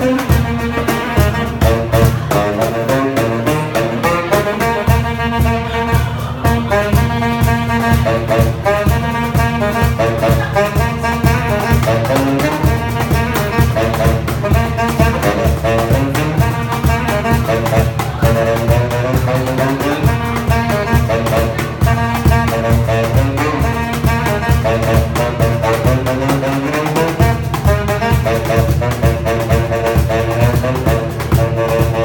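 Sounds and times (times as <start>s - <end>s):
cajon beat: 0.0s - 32.0s
saxophone jazzy melody: 0.0s - 32.0s.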